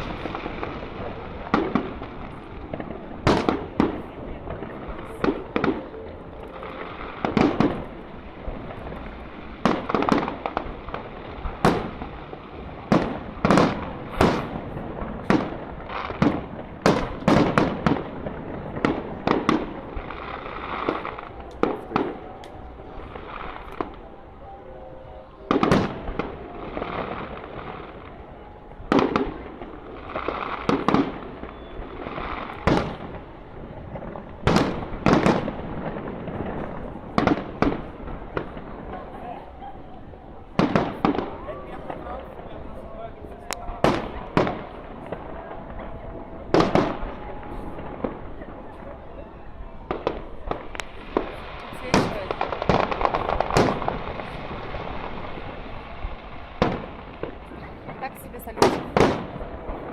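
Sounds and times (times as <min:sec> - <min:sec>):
fireworks crackling: 0:00.0 - 0:59.9.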